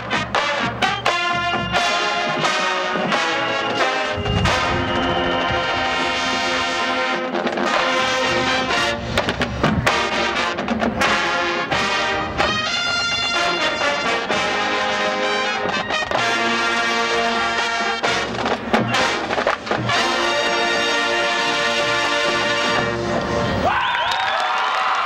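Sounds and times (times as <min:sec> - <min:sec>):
marching band playing: 0:00.0 - 0:23.7.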